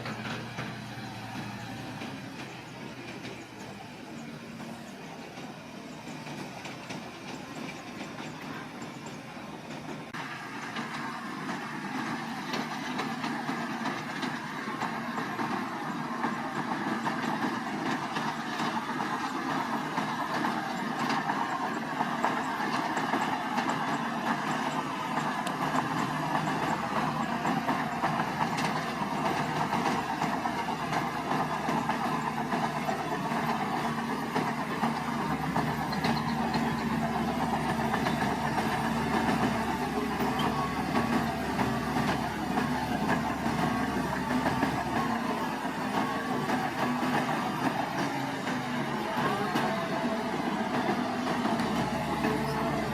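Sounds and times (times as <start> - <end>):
clattering steel tracks: 0.0 - 52.9
diesel engine running: 0.0 - 52.9.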